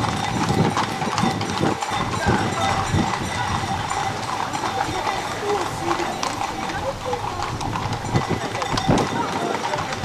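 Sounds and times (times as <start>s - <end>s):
crowd walking: 0.0s - 10.0s
horses' hooves clip-clopping on pavement: 0.0s - 10.0s.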